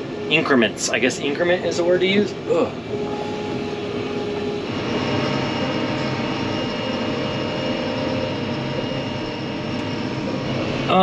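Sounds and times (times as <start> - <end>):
high-pitched whine: 0.0 - 11.0
tractor engine and drivetrain hum: 0.0 - 11.0.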